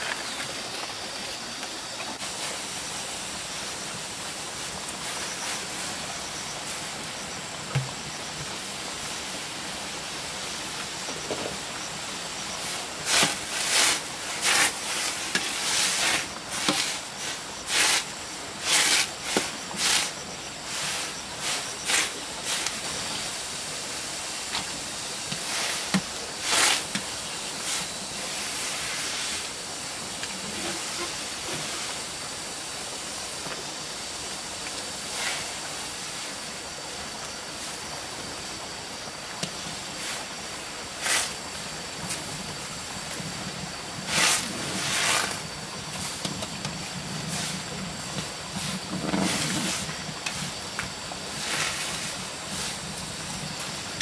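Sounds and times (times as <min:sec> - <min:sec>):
water boiling with bubbling hiss: 0:00.0 - 0:54.0.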